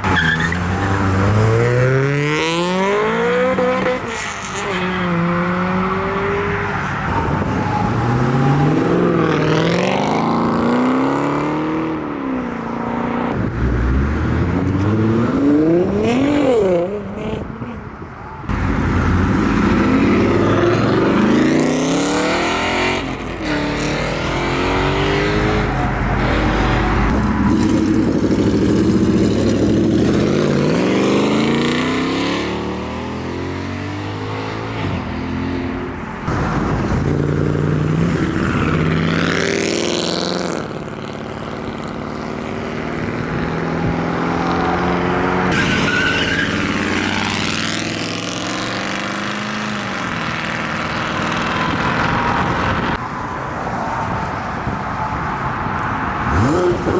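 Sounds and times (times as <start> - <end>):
cars accelerating with loud exhausts: 0.0 - 53.2, 55.5 - 56.9.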